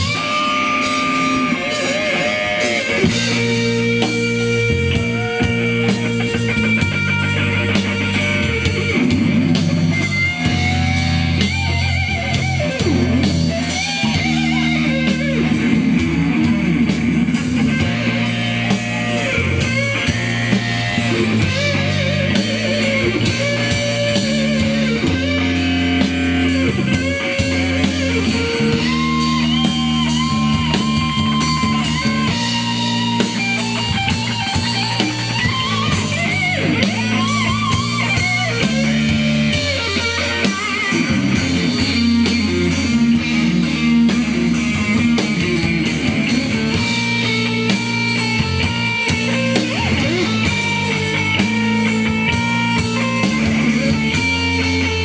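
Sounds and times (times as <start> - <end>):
electric guitar lead bending notes: 0.0 - 55.0
rock band playing: 0.0 - 55.0.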